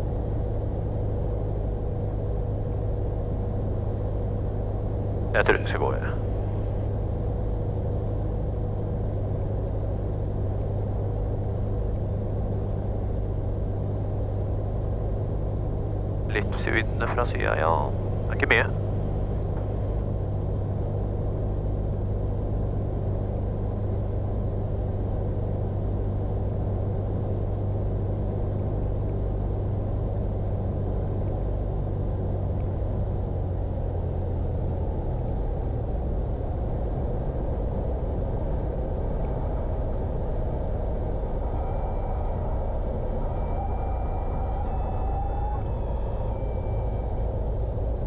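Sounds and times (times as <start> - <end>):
small plane engine idling: 0.0 - 48.0.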